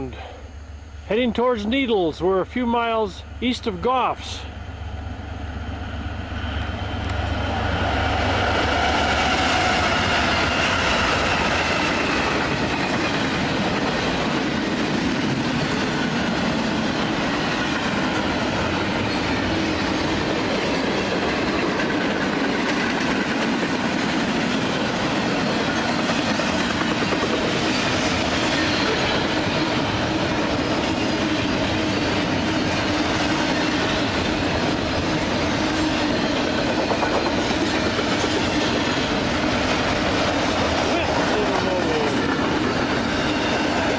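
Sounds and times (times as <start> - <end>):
diesel locomotive rumble: 0.0 - 43.9
train wheels rolling on rails: 0.1 - 43.9
wheels clacking over rail joints: 8.0 - 43.9.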